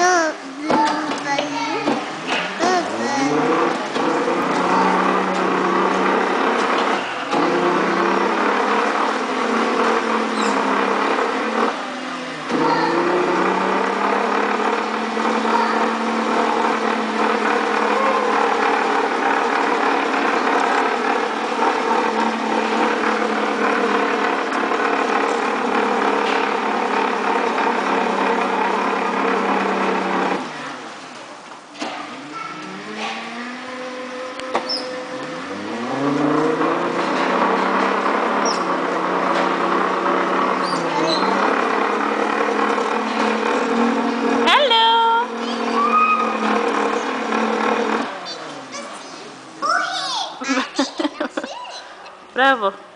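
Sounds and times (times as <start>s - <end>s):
toy car electric motor humming: 0.0s - 30.8s, 31.9s - 48.4s.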